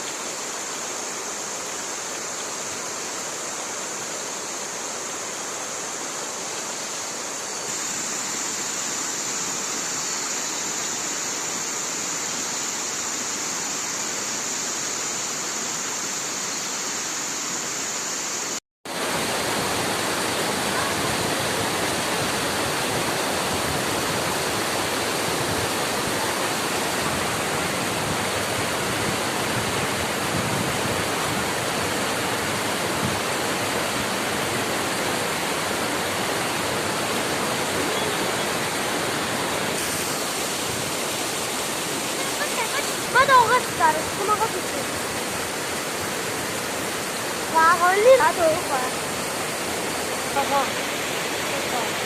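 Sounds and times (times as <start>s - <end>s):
flowing river water: 0.0s - 52.0s.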